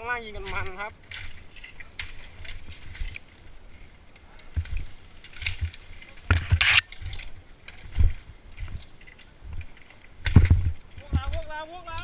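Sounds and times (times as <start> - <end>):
rustling through dry bamboo: 0.0 - 12.0.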